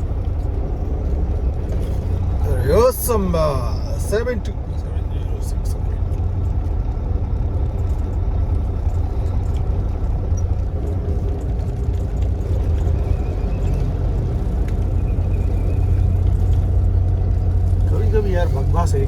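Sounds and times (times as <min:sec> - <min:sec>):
truck diesel engine drone: 0:00.0 - 0:19.0.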